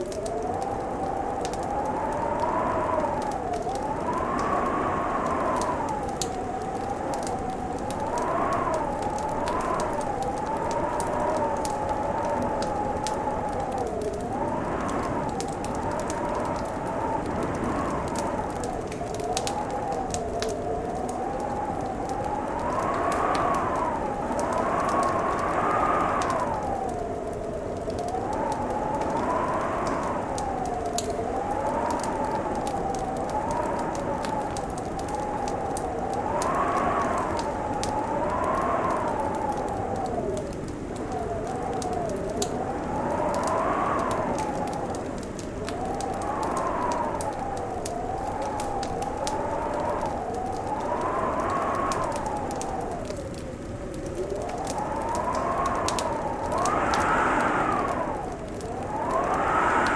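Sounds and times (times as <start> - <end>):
burning wood popping: 0.0 - 59.9
wind howling: 0.0 - 59.9
wood fire crackling: 0.0 - 59.9.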